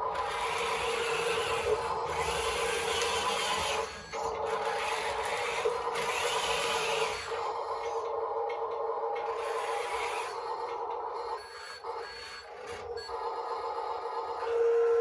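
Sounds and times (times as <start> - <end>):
electric motor and pump whining: 0.0 - 15.0.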